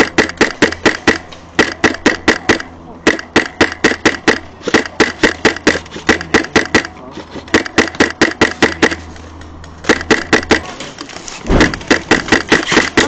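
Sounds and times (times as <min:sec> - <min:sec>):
airsoft gun firing bursts: 0:00.0 - 0:06.9, 0:07.5 - 0:09.0, 0:09.8 - 0:10.7, 0:11.5 - 0:13.0
steady low hum: 0:00.0 - 0:13.0.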